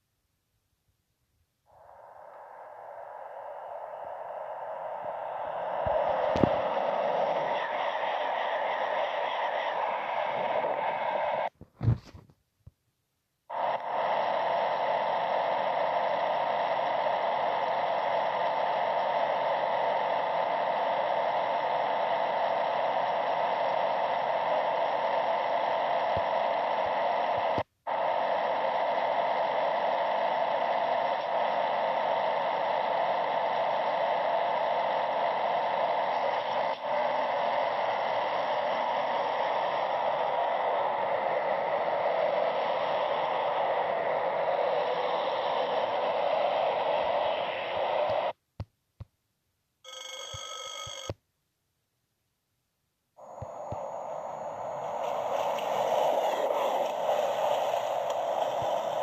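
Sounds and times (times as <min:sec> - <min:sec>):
steady static hiss: 0:00.0 - 0:59.0.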